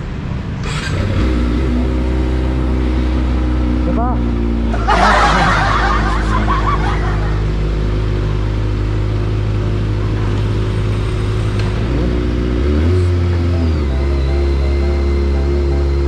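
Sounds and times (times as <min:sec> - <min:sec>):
motorcycle engine revving: 0:00.5 - 0:16.0.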